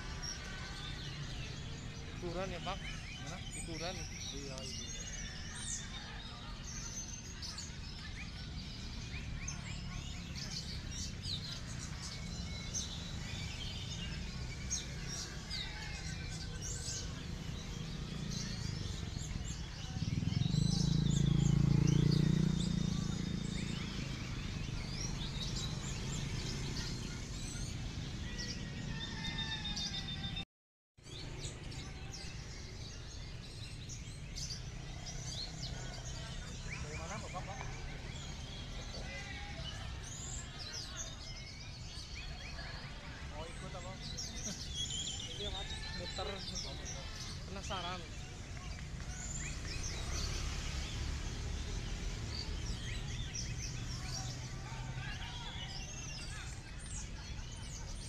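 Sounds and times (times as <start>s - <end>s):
songbirds chirping and trilling: 0.0s - 30.4s, 31.0s - 58.0s.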